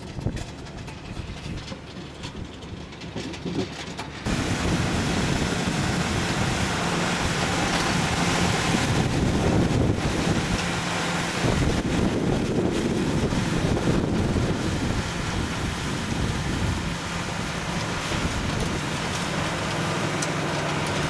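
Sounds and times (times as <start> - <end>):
rotor churning soil and stones: 0.0 - 21.0
tractor engine running: 0.0 - 21.0.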